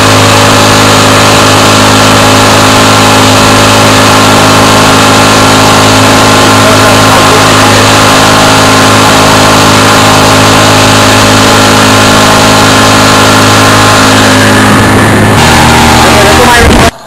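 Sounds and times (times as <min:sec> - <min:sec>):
outboard motor running hard: 0:00.0 - 0:17.0.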